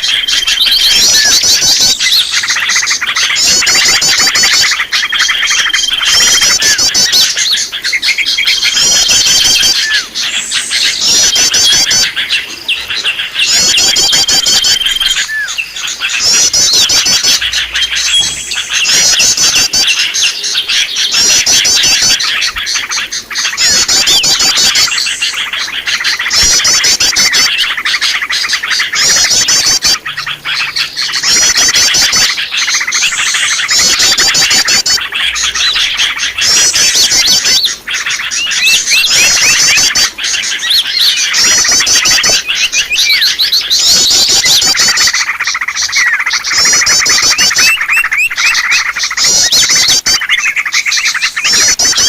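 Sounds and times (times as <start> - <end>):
rushing water: 0.0 - 52.0
songbirds chirping and trilling: 0.0 - 52.0.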